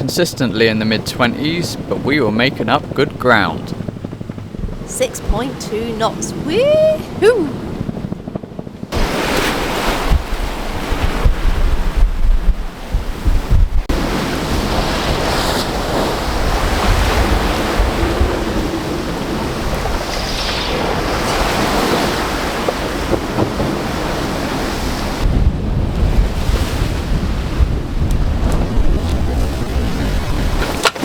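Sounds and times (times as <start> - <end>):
sea rushing: 0.0 - 8.3, 8.9 - 31.0
wind buffeting microphone: 0.0 - 31.0.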